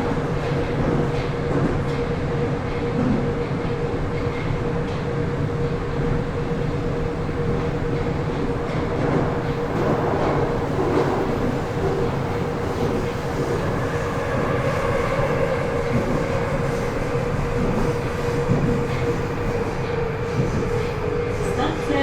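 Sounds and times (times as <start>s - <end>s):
metro train rumbling: 0.0s - 22.0s.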